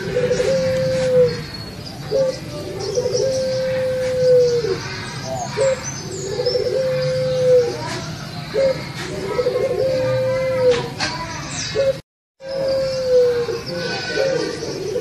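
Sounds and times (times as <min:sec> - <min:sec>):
dove cooing: 0:00.0 - 0:10.9, 0:11.8 - 0:15.0
small birds chirping: 0:00.0 - 0:15.0.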